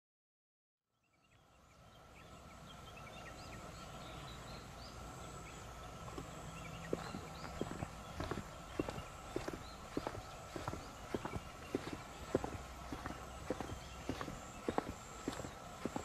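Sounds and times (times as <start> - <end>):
birds chirping: 1.0 - 16.0
steady high hum: 1.4 - 16.0.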